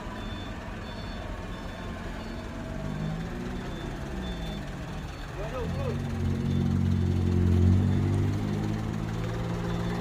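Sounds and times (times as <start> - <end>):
reversing alarm beeps: 0.0 - 8.4, 9.4 - 10.0
truck diesel engine climbing: 0.0 - 10.0.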